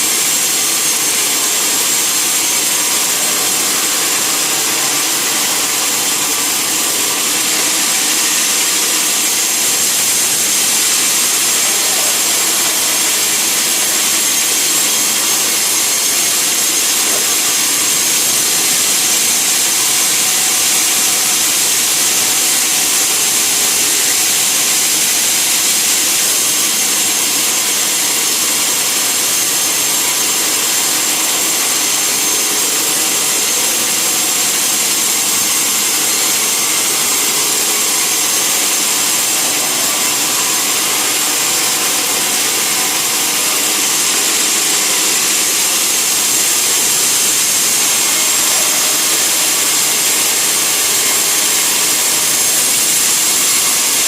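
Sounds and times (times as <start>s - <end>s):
saw cutting through wood: 0.0s - 54.0s.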